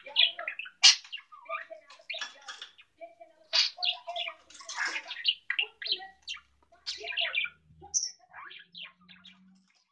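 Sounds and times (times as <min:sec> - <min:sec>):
budgerigar chattering: 0:00.0 - 0:09.0.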